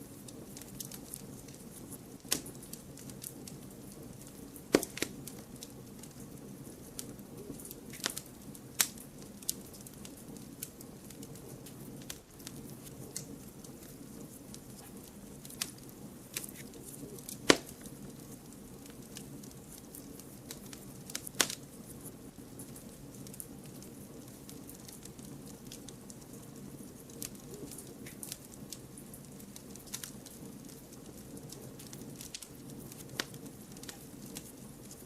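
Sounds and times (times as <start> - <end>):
loud pops of fire: 0.0 - 35.0
wood fire crackling: 0.0 - 35.0.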